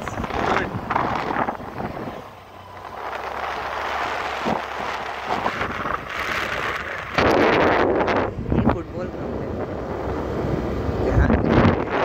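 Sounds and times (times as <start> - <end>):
outdoor noise rushing: 0.0 - 12.0
wind buffeting the microphone: 0.0 - 12.0.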